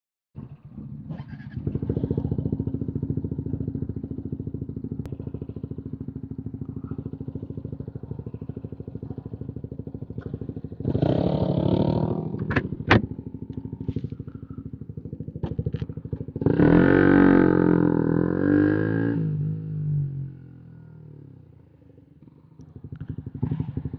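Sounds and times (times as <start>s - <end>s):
motorcycle idling and revving: 0.4s - 23.9s.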